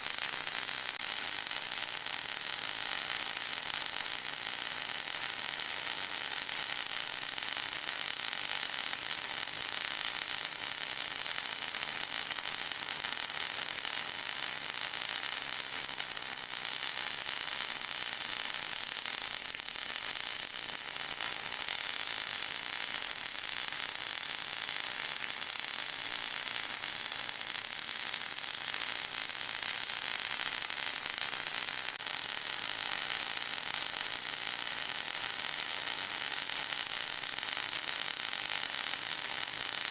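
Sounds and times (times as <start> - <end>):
white noise hiss with crackle: 0.0 - 39.9.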